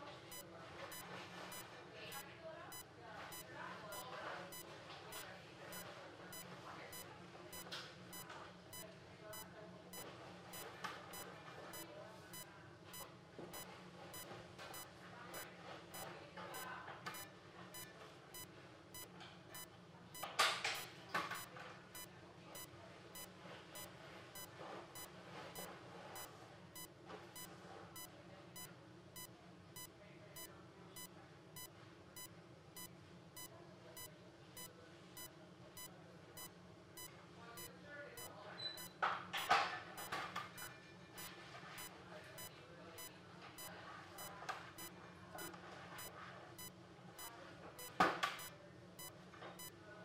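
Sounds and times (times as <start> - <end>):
patient monitor beeping: 0.0 - 49.8.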